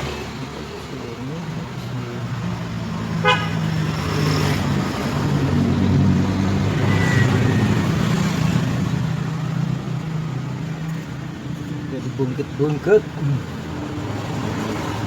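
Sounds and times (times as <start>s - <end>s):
vehicle engine hum: 0.0s - 15.0s
vehicle passing: 2.2s - 15.0s.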